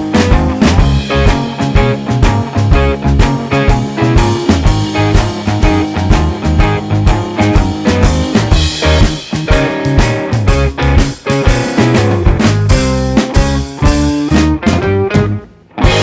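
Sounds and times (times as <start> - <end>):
rock music with electric guitar: 0.0 - 16.0
steady drum beat: 0.0 - 16.0.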